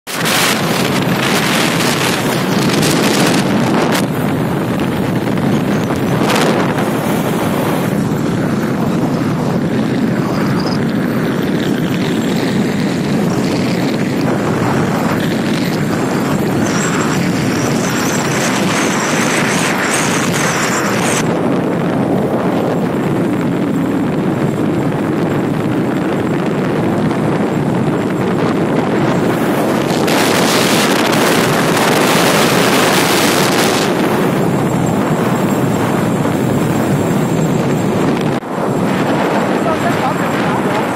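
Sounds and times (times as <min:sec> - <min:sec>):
motorcycle engine running: 0:00.1 - 0:40.9
wind buffeting microphone: 0:00.1 - 0:40.9.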